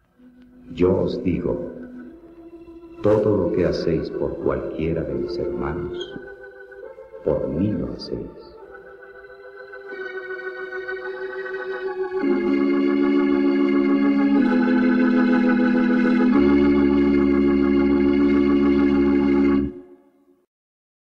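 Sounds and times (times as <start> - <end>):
music of sustained chords: 0.0 - 20.4.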